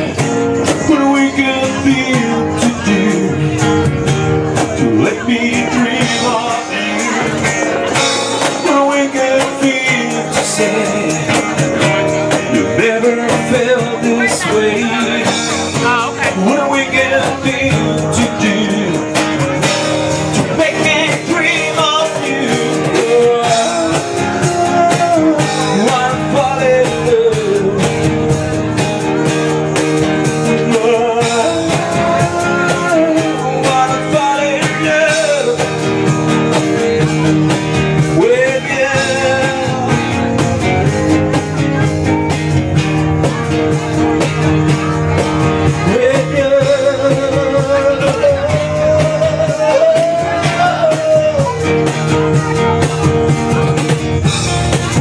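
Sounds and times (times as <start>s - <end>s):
man singing into microphone: 0.0s - 42.4s, 43.2s - 55.0s
acoustic guitar strumming: 0.0s - 55.0s.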